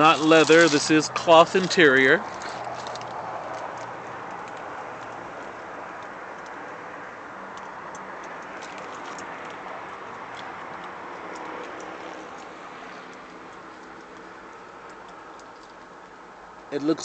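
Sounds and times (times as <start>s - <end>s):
light clicks and crackles: 0.0s - 6.6s, 7.5s - 16.7s.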